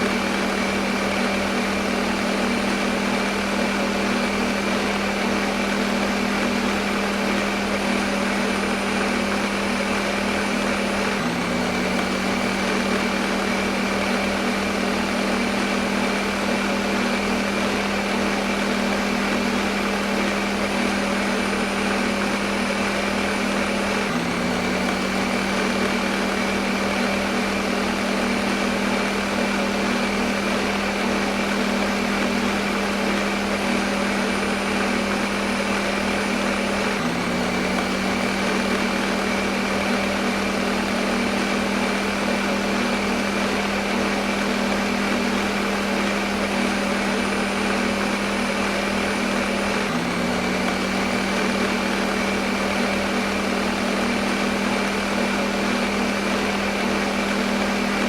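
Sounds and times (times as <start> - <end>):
blender motor running: 0.0 - 58.0.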